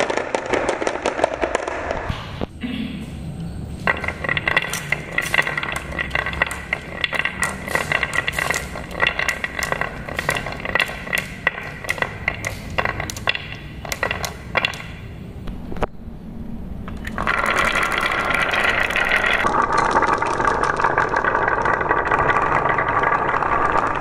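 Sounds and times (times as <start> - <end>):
marbles clicking together: 0.0 - 2.1, 3.7 - 15.2, 16.9 - 24.0
marbles rolling on wooden track: 0.0 - 2.1, 3.4 - 15.3, 16.9 - 24.0.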